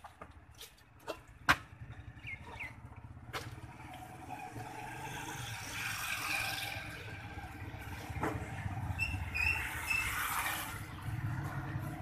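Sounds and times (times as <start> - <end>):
motor vehicle passing: 0.9 - 12.0.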